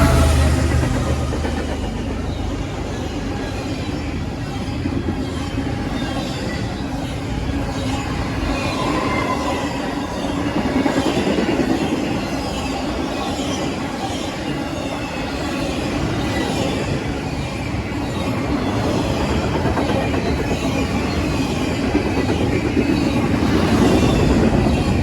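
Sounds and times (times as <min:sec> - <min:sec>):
train wheels rumbling and rattling: 0:00.0 - 0:25.0.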